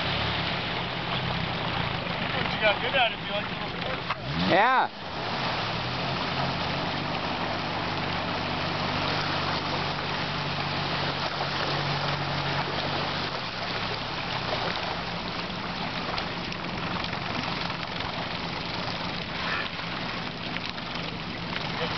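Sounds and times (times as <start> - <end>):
outboard engine hum: 0.0 - 21.9
river water rushing: 0.0 - 21.9.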